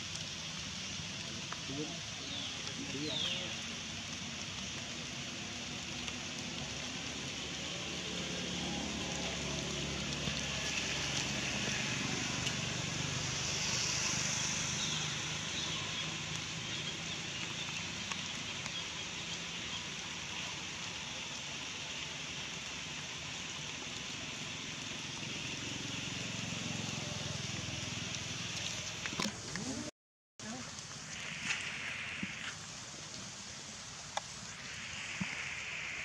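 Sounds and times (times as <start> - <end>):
high-pitched outdoor hiss: 0.0 - 36.0.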